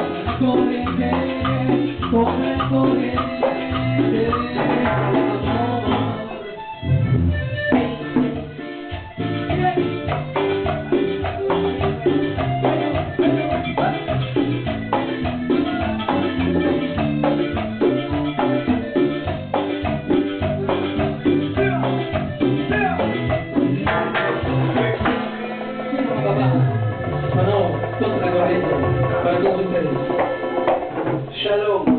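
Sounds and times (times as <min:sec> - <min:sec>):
band playing music: 0:00.0 - 0:31.9
drums and percussion: 0:00.0 - 0:31.9.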